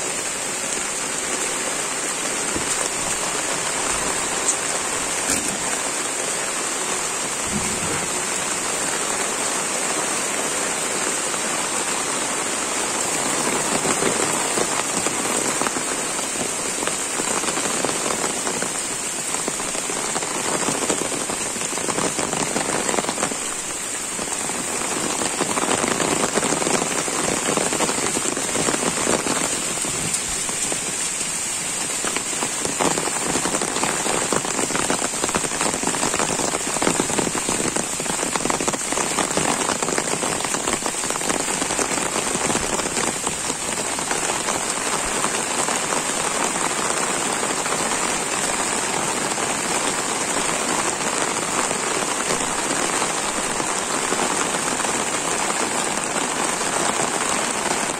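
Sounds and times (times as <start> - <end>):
rain falling on leaves: 0.0 - 57.9.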